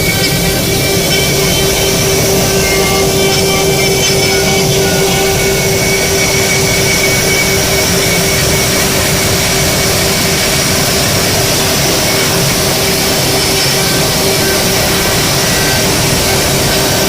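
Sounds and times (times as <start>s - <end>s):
constant machine tone: 0.0s - 17.0s
machine whirring: 0.0s - 17.0s.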